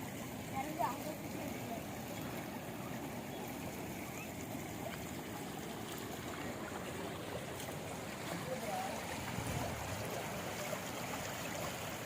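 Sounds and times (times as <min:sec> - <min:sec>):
rainwater flowing: 0:00.0 - 0:12.0.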